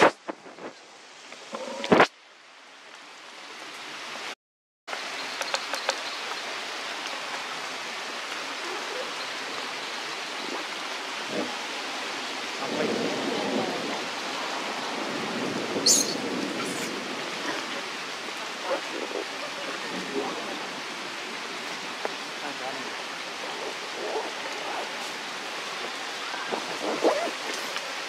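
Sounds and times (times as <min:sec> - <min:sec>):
hissing outdoor background noise: 0:00.0 - 0:28.0.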